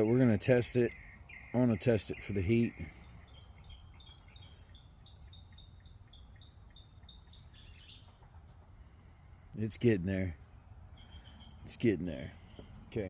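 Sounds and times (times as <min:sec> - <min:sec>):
low steady outdoor rumble: 0:00.0 - 0:13.0.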